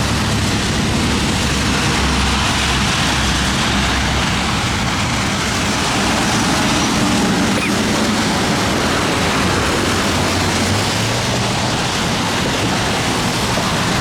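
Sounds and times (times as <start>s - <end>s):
wind gusting on microphone: 0.0s - 14.0s.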